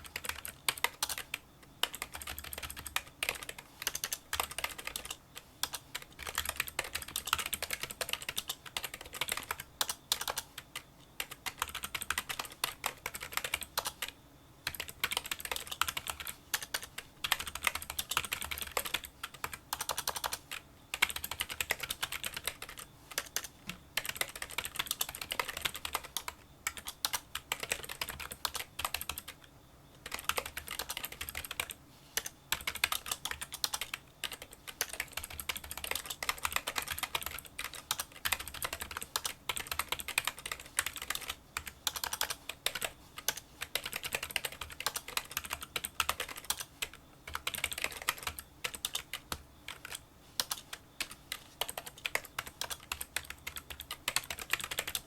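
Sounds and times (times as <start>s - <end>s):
fast keyboard typing: 0.0s - 10.6s, 11.2s - 29.4s, 30.0s - 55.0s.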